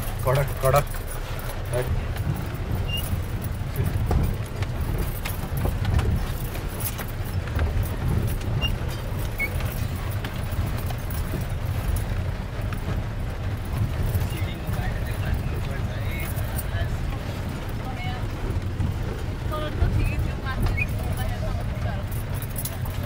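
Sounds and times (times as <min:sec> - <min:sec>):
engine and road rumble: 0:00.0 - 0:23.0
knocks and rattles over stones: 0:00.0 - 0:23.0.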